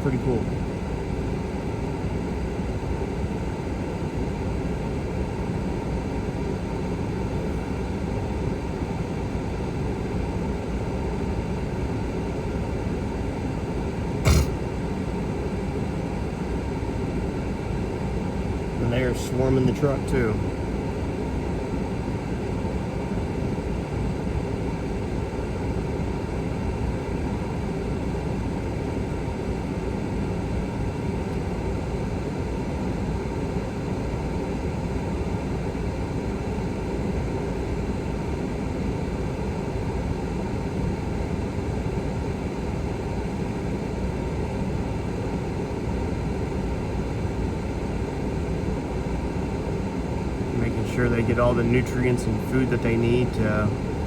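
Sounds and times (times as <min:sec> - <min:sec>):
air conditioning blowing: 0:00.0 - 0:54.0.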